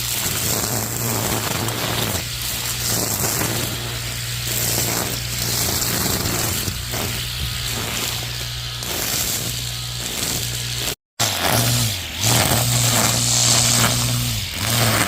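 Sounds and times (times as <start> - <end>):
grass cutter motor hum: 0.0 - 15.0
grass cutting noise: 0.0 - 15.0.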